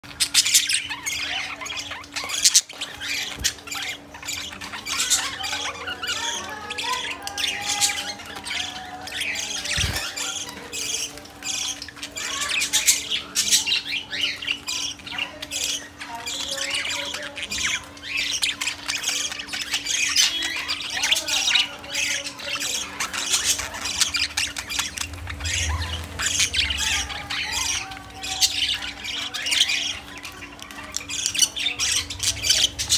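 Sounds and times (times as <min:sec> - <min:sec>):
budgerigars chattering: 0:00.0 - 0:32.9.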